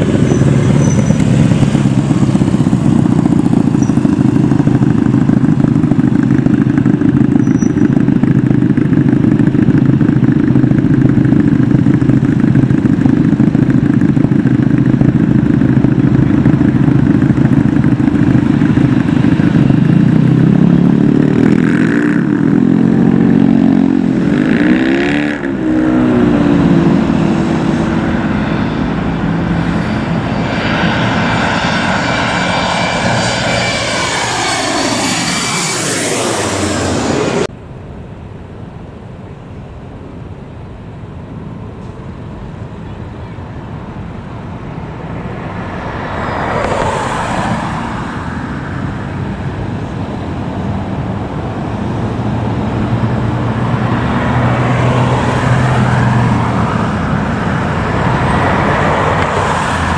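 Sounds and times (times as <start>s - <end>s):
jet airliner roar: 0.0s - 59.9s
jet engine whine: 0.0s - 59.9s.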